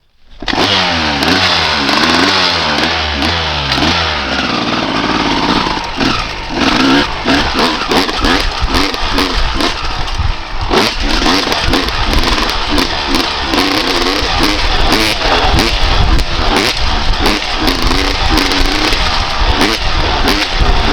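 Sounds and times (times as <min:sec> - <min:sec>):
buffeting noise: 0:00.0 - 0:20.9
motorcycle engine revving: 0:00.0 - 0:20.9
sharp thumps: 0:00.4 - 0:20.9.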